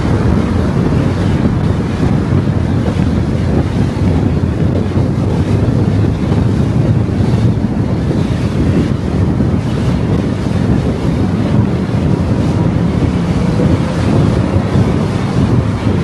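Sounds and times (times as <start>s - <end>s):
car tyre and wind noise: 0.0s - 16.0s.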